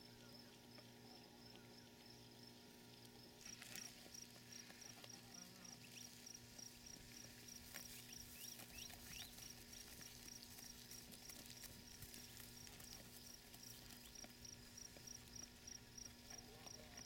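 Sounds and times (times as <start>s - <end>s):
crickets chirping: 0.0s - 2.6s, 3.2s - 17.0s.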